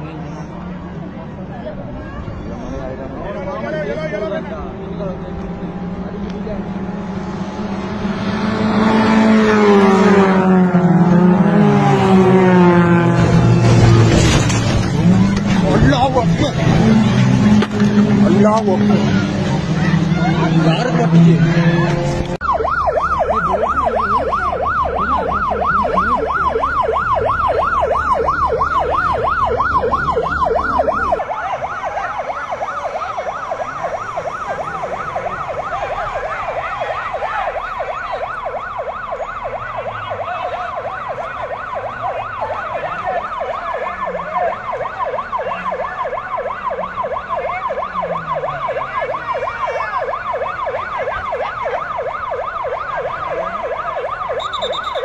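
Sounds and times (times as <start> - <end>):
ambulance siren wailing: 1.8 - 55.0.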